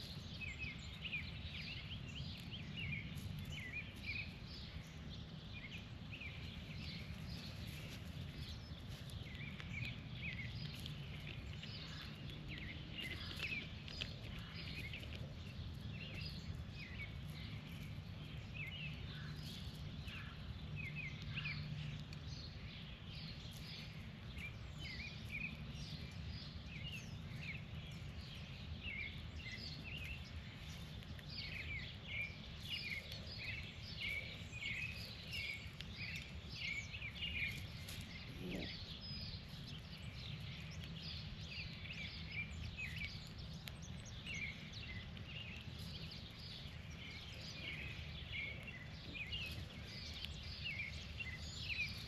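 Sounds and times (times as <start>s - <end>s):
birds chirping: 0.0s - 52.0s
low outdoor rumble: 0.0s - 52.0s.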